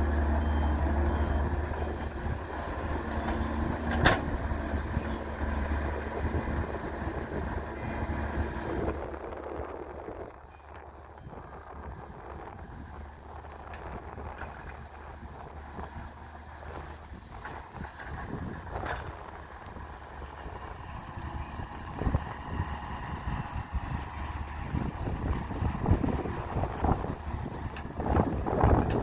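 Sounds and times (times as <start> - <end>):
diesel engine running: 0.0 - 29.0
wind buffeting microphone: 0.0 - 29.0.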